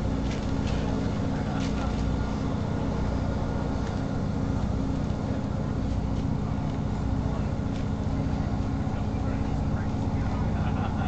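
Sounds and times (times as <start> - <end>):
diesel engine drone: 0.0 - 11.0
wheel and rail noise: 0.0 - 11.0.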